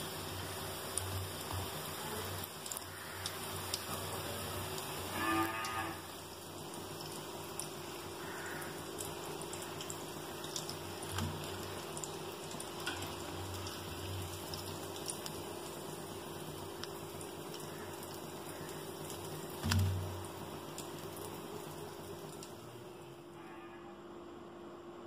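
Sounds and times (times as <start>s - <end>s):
hot oil sizzling and bubbling: 0.0s - 23.4s.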